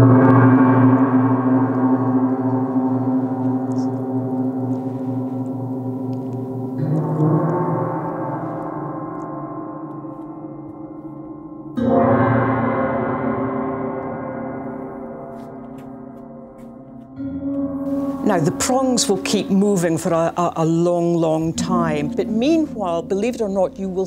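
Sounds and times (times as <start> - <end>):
metal percussion ringing: 0.0 - 24.0.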